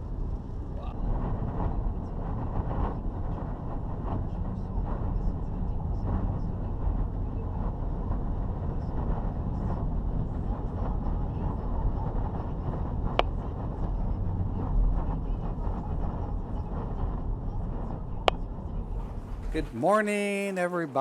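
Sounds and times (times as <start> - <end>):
wind buffeting microphone: 0.0 - 19.7.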